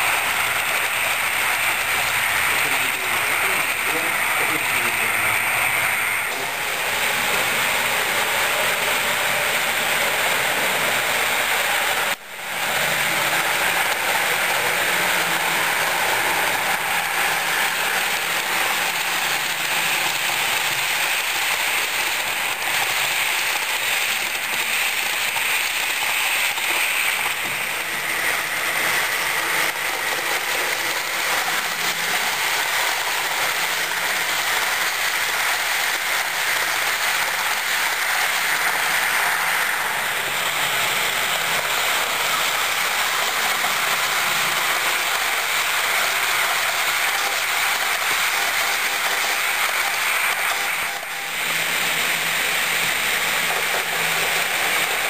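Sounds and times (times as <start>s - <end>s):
model train rolling on rails: 0.0s - 55.0s.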